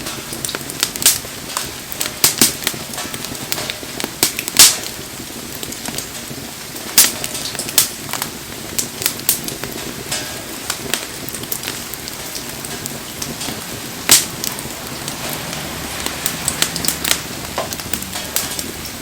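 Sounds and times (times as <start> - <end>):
bonfire crackling and popping: 0.0 - 19.0
rain hissing: 0.0 - 19.0.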